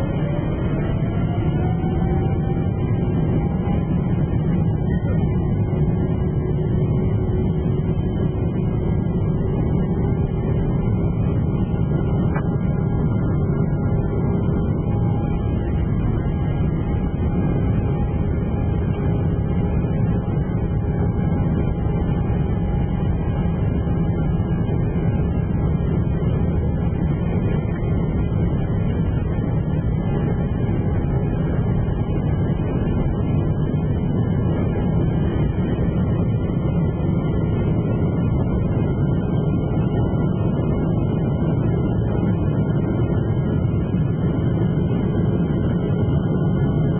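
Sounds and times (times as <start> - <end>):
faint steady whine: 0.0 - 46.9
jet engine rumble: 0.0 - 46.9.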